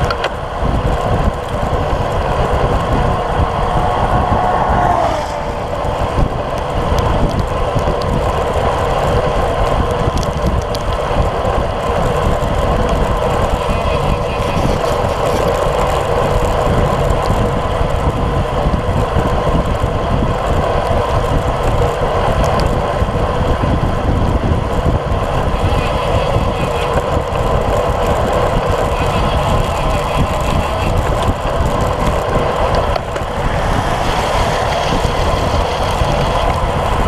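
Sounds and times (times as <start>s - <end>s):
tyres on wet asphalt: 0.0s - 37.0s
wind buffeting microphone: 0.0s - 37.0s.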